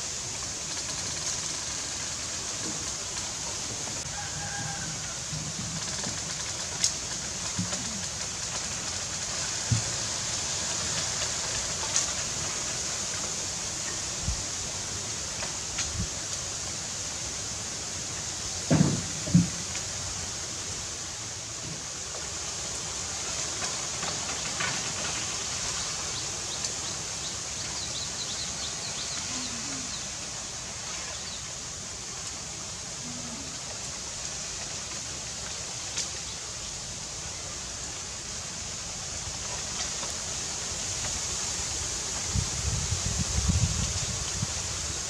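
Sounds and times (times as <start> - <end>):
hiss-like outdoor ambience: 0.0 - 45.0.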